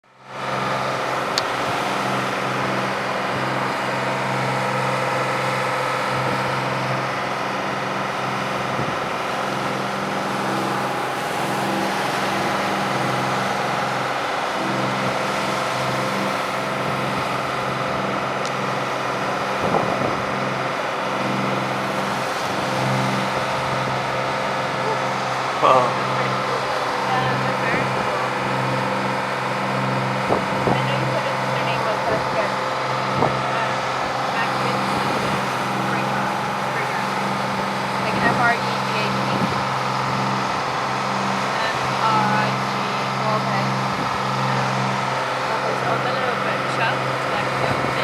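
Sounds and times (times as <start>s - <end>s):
engine humming steadily: 0.0s - 48.0s.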